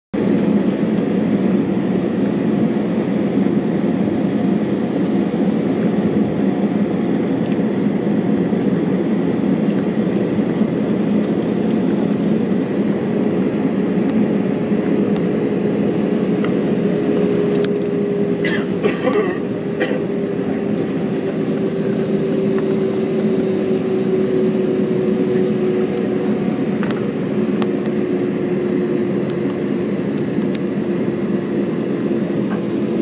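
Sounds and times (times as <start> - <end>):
jet engines low hum: 0.2 - 33.0.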